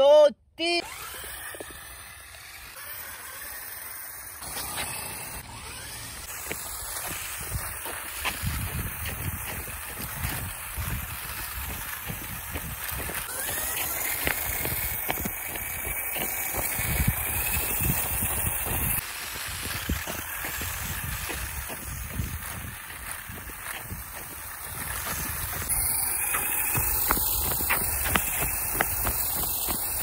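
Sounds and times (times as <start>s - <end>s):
electric motors whining: 0.8s - 30.0s
thin whine: 0.8s - 30.0s.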